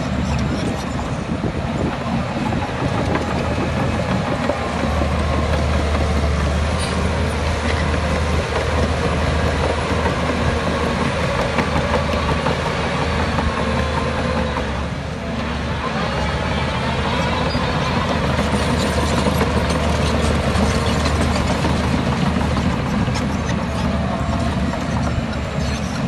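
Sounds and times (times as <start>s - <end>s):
machinery rattling and clatter: 0.0s - 15.0s, 17.0s - 26.0s
diesel machinery engine drone: 0.0s - 26.0s.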